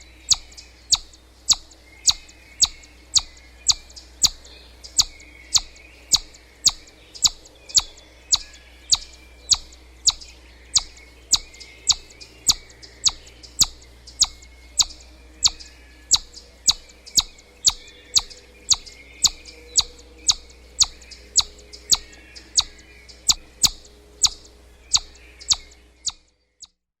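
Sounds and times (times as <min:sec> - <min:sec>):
chipmunk chip calls: 0:00.0 - 0:26.8
faint chirping: 0:00.0 - 0:26.8.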